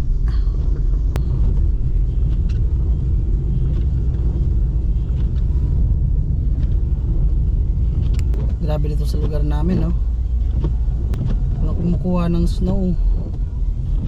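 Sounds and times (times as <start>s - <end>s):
car driving on snowy road: 0.0s - 14.0s.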